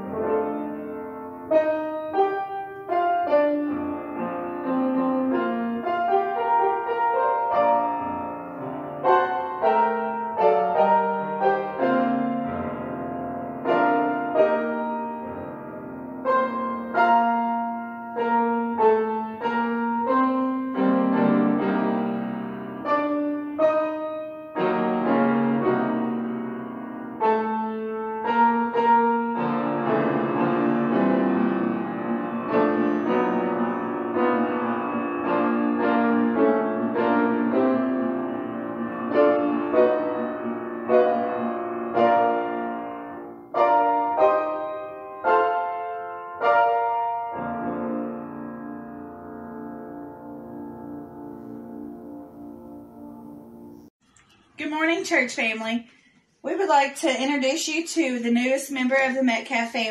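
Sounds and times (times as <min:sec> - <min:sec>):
slow solo piano piece: 0:00.0 - 0:53.9.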